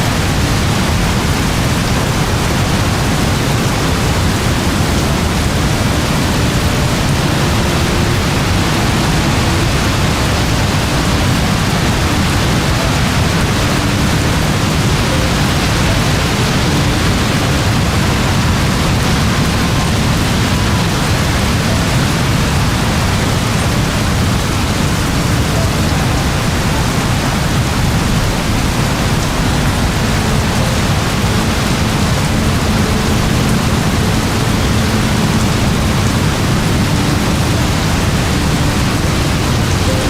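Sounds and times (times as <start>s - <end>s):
heavy rain downpour: 0.0s - 40.0s.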